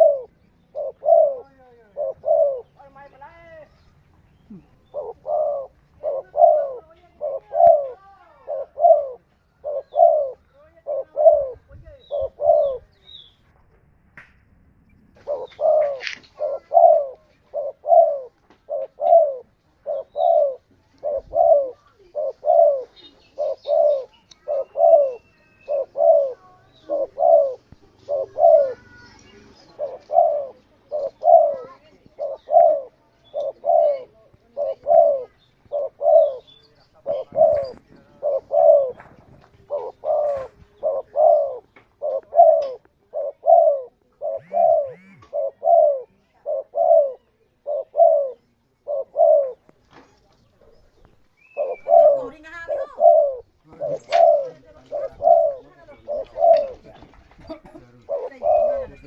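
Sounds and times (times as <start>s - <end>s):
dove cooing: 0.0s - 3.7s, 4.4s - 12.9s, 15.2s - 49.7s, 50.5s - 59.0s.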